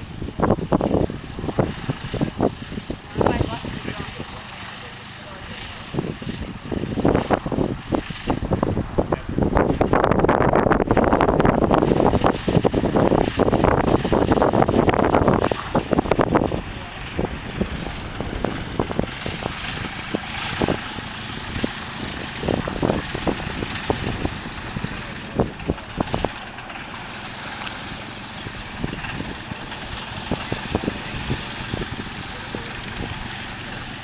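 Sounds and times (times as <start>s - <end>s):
propeller engine drone: 0.0s - 34.0s.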